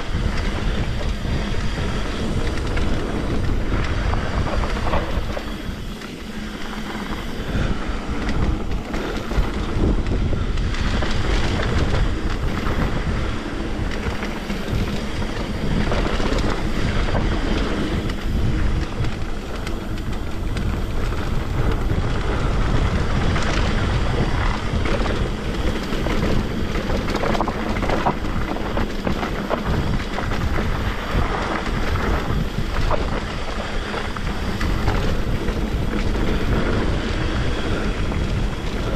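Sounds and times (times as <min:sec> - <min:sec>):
bike rattling and knocking: 0:00.0 - 0:38.9
tyre noise on trail: 0:00.0 - 0:38.9
wind rushing over microphone: 0:00.0 - 0:38.9.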